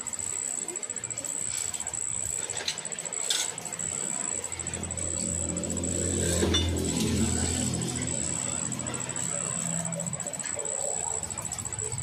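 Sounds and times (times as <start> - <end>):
pulsing high insect trill: 0.0 - 12.0.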